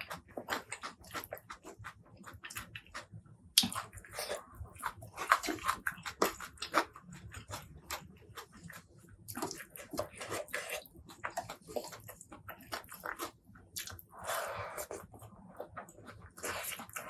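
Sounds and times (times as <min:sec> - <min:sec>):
wet chewing and lip smacks: 0:00.0 - 0:17.0.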